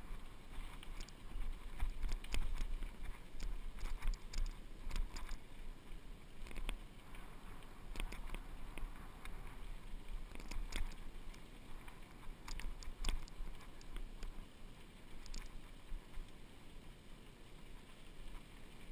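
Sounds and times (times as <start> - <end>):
bike clicks and rattles: 0.0 - 16.5
wind rumble on microphone: 0.0 - 18.9.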